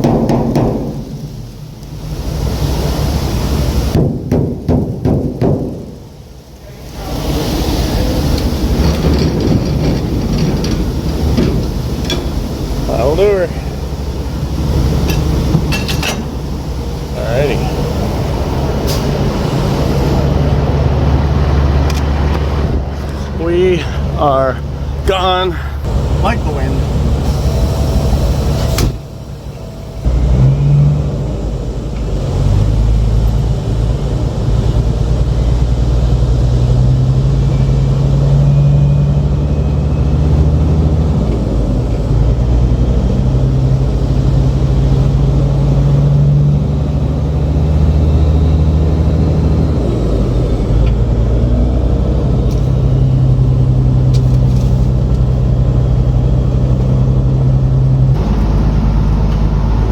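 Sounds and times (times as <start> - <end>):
diesel truck engine pulling: 0.0 - 59.9.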